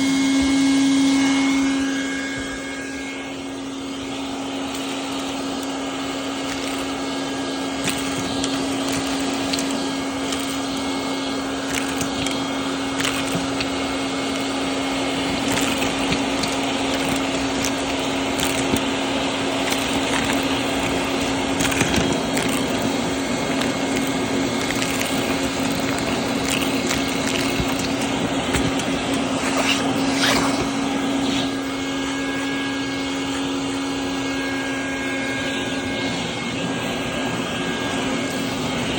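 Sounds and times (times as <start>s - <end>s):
shop vacuum running: 0.0s - 38.9s.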